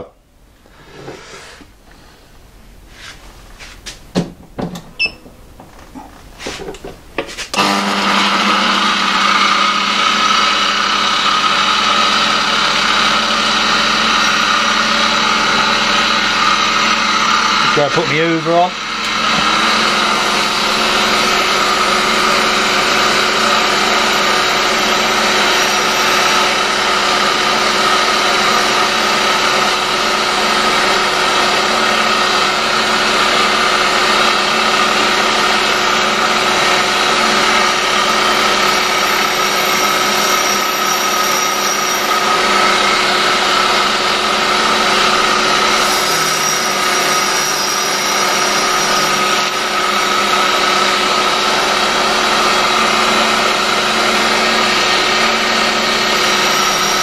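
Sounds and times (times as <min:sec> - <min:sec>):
vacuum cleaner running: 0:00.6 - 0:02.2, 0:02.9 - 0:57.0
grinder motor running: 0:07.5 - 0:57.0.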